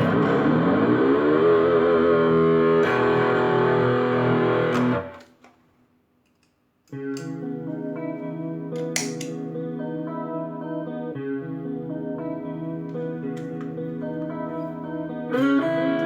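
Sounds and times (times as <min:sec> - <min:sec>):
distorted electric guitar chords: 0:00.0 - 0:05.3, 0:06.9 - 0:16.0.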